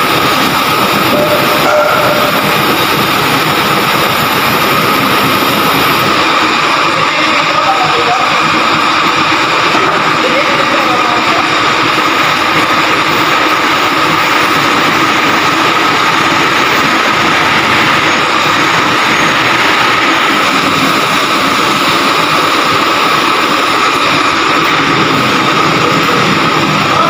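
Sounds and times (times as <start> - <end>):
constant high whine: 0.0 - 27.0
heavy machine engine running: 0.0 - 27.0.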